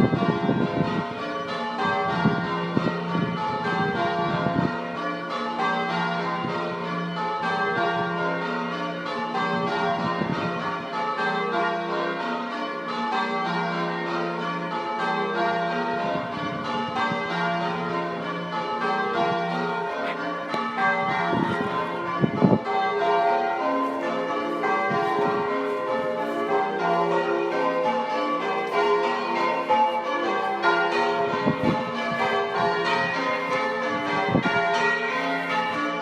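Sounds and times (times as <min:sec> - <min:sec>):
church bells ringing: 0:00.0 - 0:36.0.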